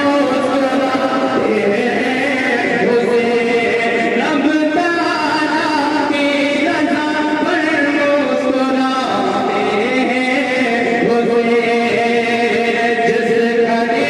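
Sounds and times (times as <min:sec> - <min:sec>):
man chanting devotional poem: 0:00.0 - 0:14.0.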